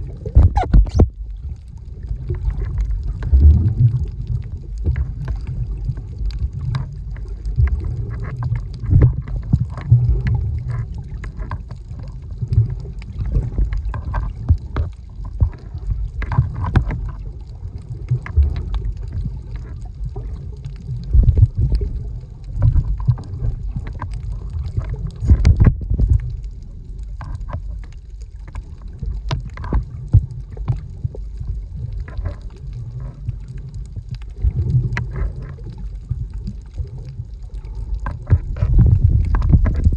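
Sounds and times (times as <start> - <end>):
faint clicks and crackles: 0.0 - 39.9
muffled underwater water rumble: 0.0 - 39.9.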